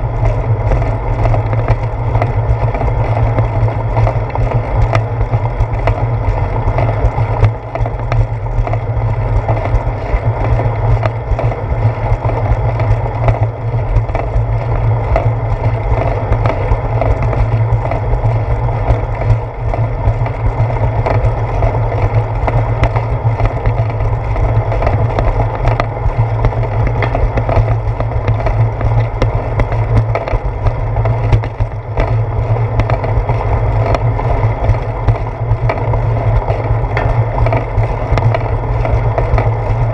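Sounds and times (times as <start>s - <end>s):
bicycle rumbling on concrete: 0.0s - 39.9s.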